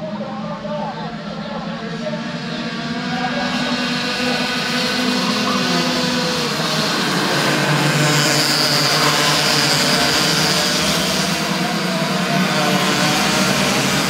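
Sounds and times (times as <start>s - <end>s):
kart engines buzzing: 0.0s - 14.0s.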